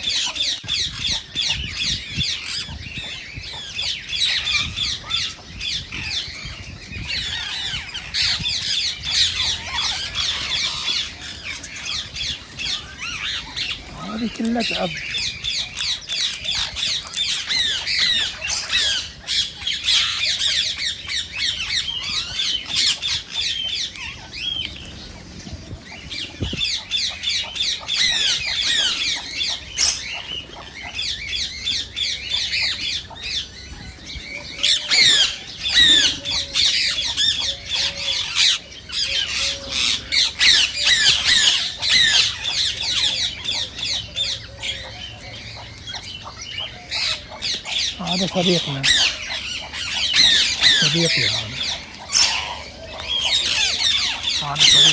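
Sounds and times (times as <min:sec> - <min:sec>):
parakeets squawking: 0:00.0 - 0:24.7, 0:26.2 - 0:54.9.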